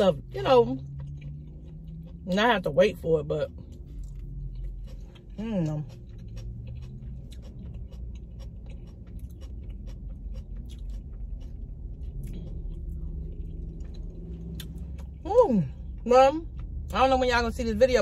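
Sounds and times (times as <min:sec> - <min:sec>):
faint low hum: 0:00.0 - 0:18.0
low background rumble: 0:00.0 - 0:18.0
person chewing food: 0:00.1 - 0:17.0.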